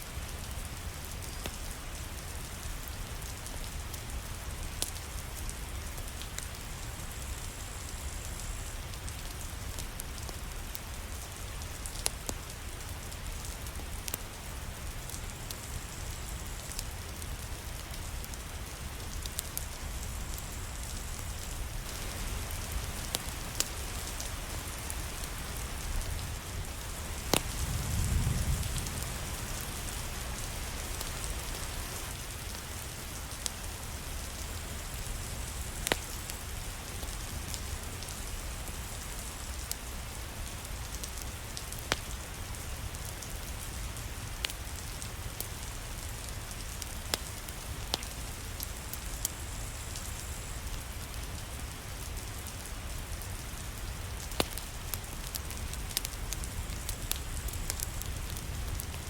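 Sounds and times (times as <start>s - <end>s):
steady rain: 0.0s - 59.0s
wood fire crackling and popping: 0.2s - 59.0s.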